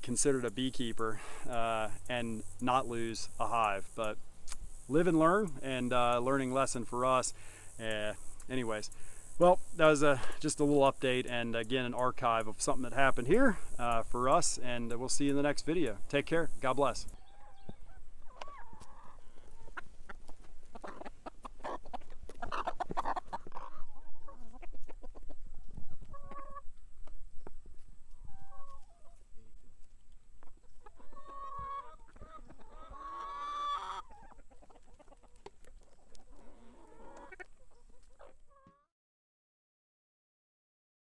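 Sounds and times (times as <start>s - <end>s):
hens clucking: 0.0s - 38.8s.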